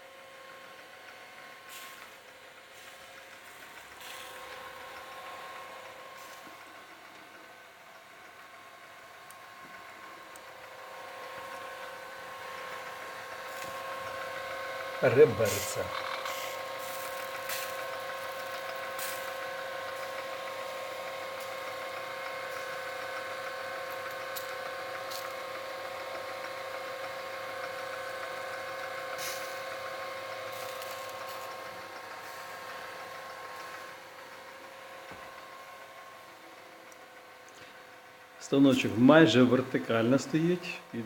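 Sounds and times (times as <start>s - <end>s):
rotisserie motor whine: 0.0s - 41.0s.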